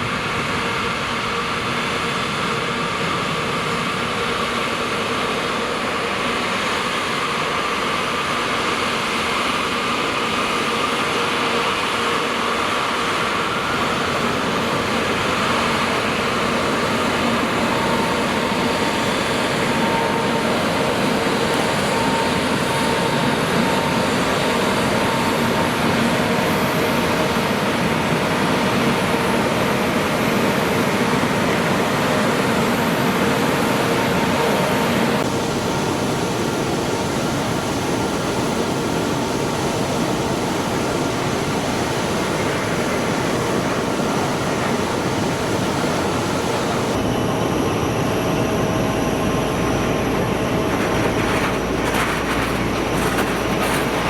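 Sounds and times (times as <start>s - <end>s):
jet engines rushing: 0.0s - 54.0s.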